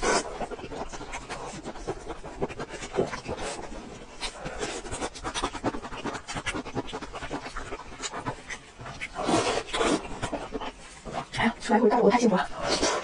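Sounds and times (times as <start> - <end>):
wet chewing and lip-smacking: 0.0 - 13.0.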